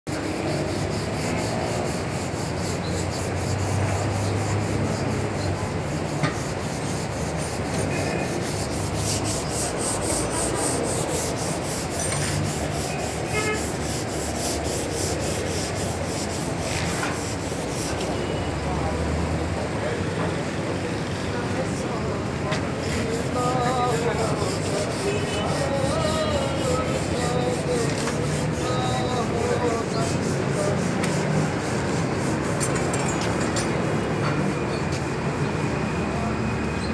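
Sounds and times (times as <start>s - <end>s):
sandpaper rubbing on metal: 0.1s - 18.6s, 22.7s - 34.6s.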